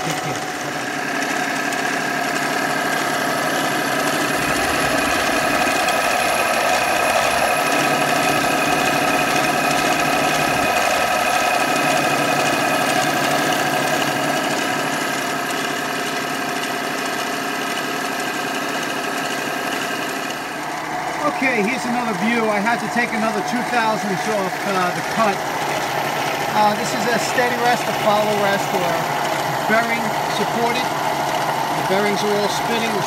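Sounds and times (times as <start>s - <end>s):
lathe motor and gears whining: 0.0s - 33.0s.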